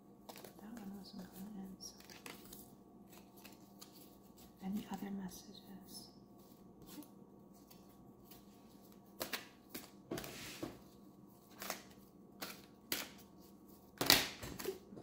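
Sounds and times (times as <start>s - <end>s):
cards being shuffled: 0.2s - 4.6s, 6.4s - 14.9s.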